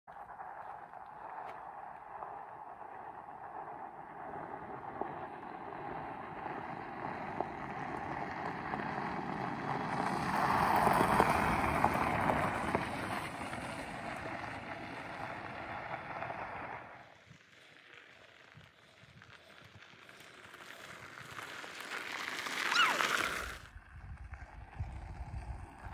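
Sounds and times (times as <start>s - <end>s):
scooter tyres rolling over gravel: 0.1s - 25.9s.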